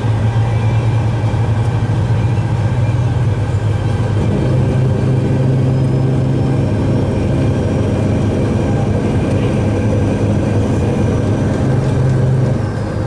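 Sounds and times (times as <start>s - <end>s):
road noise: 0.0s - 13.0s
truck engine droning: 0.0s - 13.0s.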